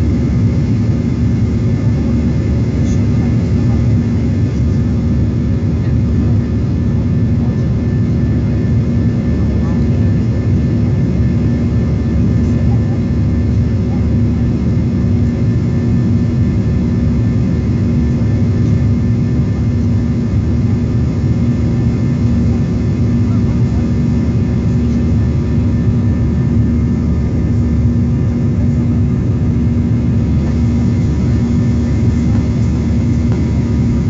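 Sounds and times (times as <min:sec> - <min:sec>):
jet engines low rumble: 0:00.0 - 0:34.0
steady hum: 0:00.0 - 0:34.0.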